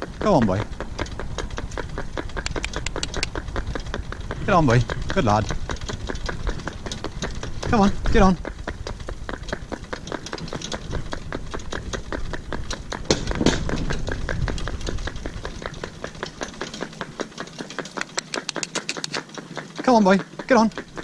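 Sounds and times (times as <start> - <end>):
hooves clip-clopping on tarmac: 0.0 - 21.0.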